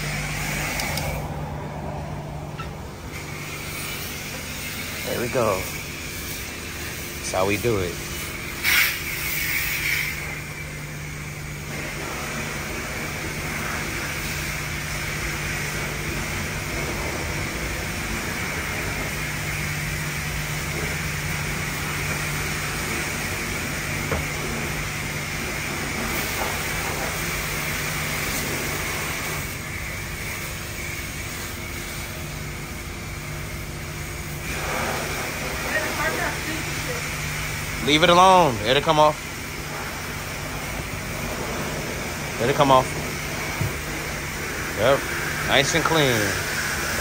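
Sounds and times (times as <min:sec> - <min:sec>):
hiss of spraying water: 0:00.0 - 0:01.3, 0:03.0 - 0:47.0
car wash machinery hum: 0:00.0 - 0:47.0.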